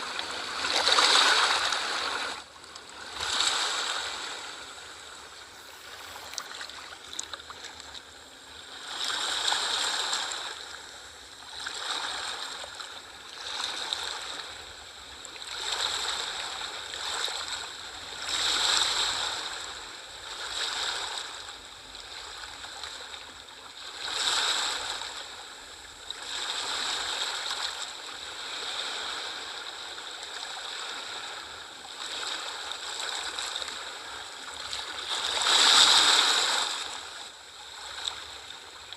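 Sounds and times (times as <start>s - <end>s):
small ocean waves washing in: 0.0s - 23.2s, 23.8s - 38.9s.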